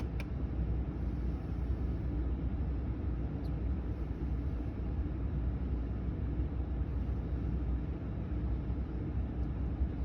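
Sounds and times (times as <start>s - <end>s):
air rushing from vent: 0.0s - 10.0s.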